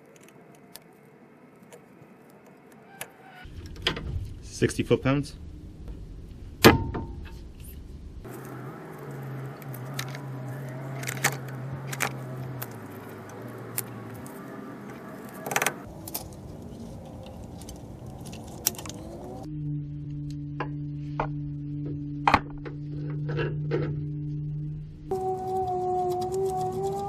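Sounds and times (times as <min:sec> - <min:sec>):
steady low hum: 0:03.4 - 0:27.0.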